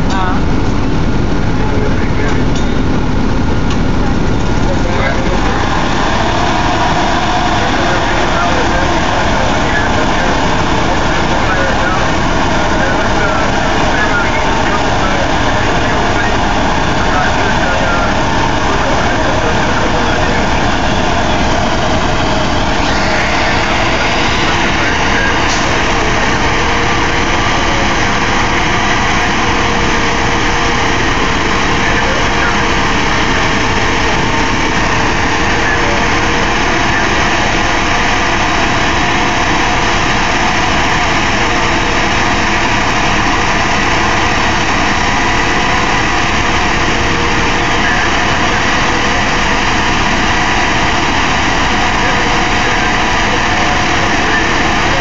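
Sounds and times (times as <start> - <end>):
motor idling: 0.0 - 55.0
faint steady tones: 1.6 - 55.0.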